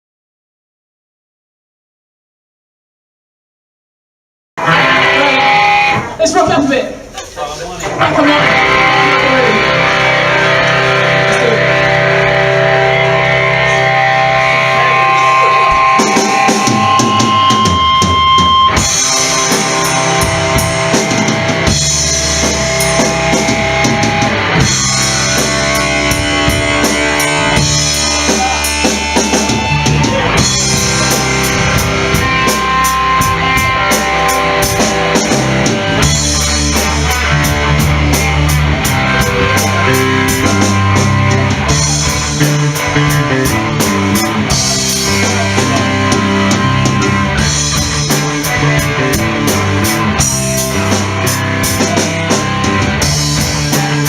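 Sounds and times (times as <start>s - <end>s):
electric guitar: 4.6s - 7.1s, 7.8s - 54.0s
bass guitar: 4.6s - 54.0s
drum kit beat: 4.6s - 54.0s.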